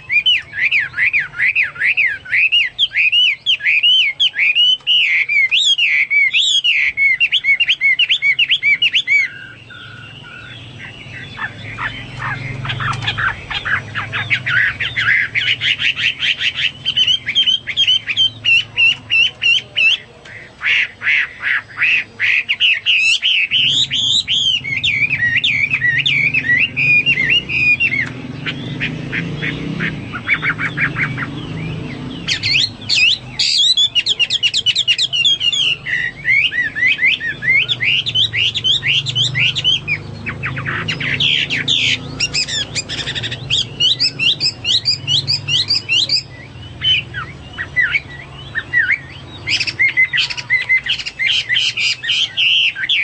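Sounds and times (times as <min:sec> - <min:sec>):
bird singing whistled trills: 0:00.0 - 0:20.1, 0:20.7 - 0:53.0.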